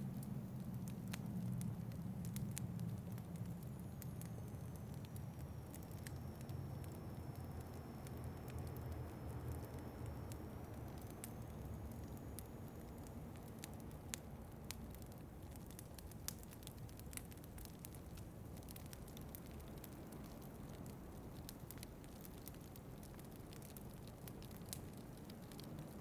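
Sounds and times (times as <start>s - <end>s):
low wind rumble: 0.0s - 26.0s
wood fire crackling: 0.0s - 26.0s
sharp pops and snaps: 0.1s - 26.0s.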